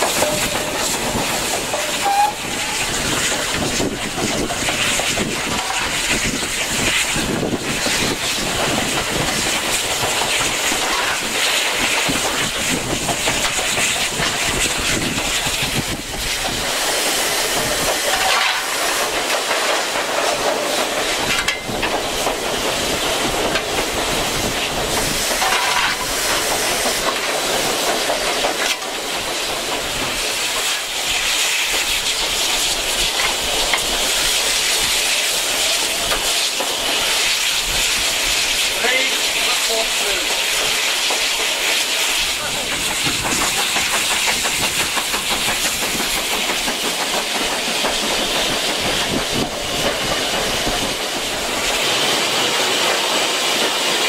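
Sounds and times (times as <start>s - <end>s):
steam engine running: 0.0s - 54.0s
steam hissing: 0.0s - 54.0s
wheel clatter over rail joints: 0.0s - 54.0s.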